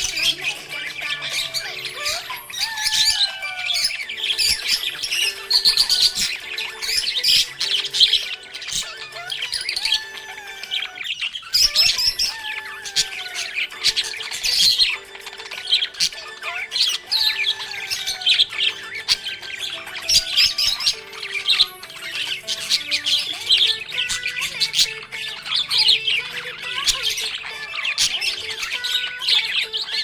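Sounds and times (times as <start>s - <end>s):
background music with held notes: 0.0s - 30.0s
budgies chirping and squawking: 0.0s - 30.0s.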